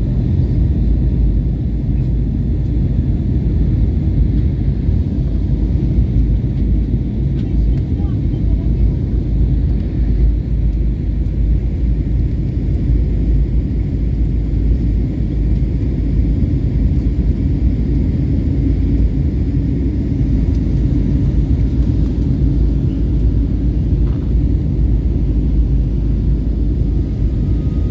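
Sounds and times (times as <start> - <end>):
jet engine rumble: 0.0 - 27.9.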